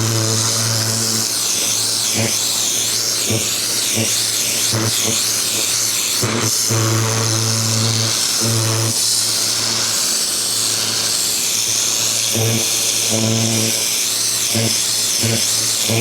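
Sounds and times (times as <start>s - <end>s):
motor and pump hum: 0.0s - 16.0s
pressure washer water jet hissing: 0.0s - 16.0s.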